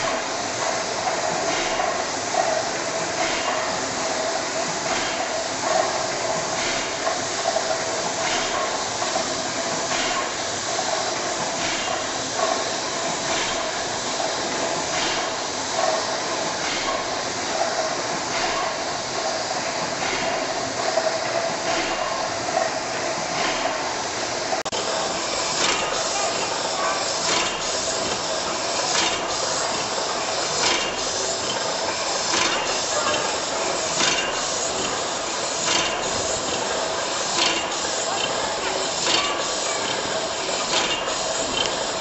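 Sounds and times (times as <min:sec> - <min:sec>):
steam engine running: 0:00.0 - 0:42.0.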